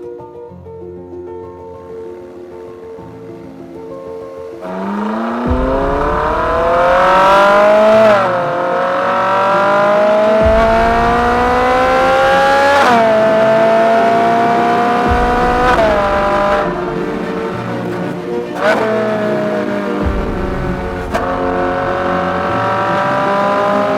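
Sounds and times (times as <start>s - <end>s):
sports car engine accelerating: 4.6s - 23.9s.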